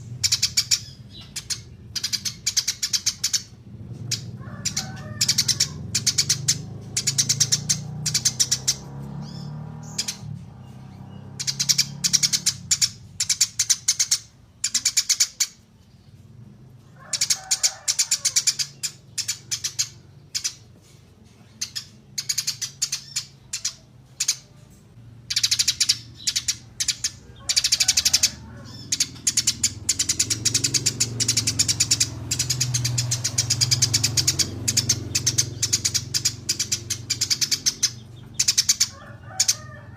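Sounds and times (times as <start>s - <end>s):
small songbirds chattering trills: 0.0s - 39.9s.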